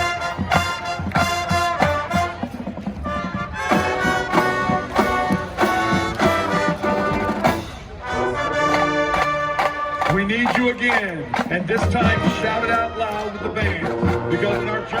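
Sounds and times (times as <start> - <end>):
brass chords: 0.0 - 15.0
drumline beat: 0.0 - 15.0.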